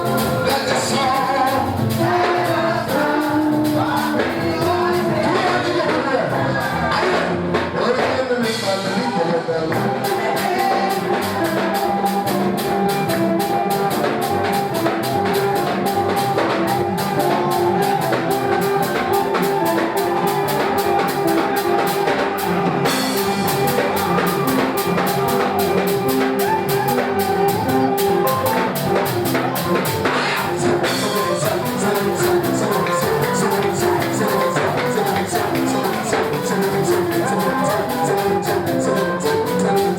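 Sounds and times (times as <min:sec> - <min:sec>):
drum kit beat: 0:00.0 - 0:39.9
keyboard and bass notes: 0:00.0 - 0:39.9.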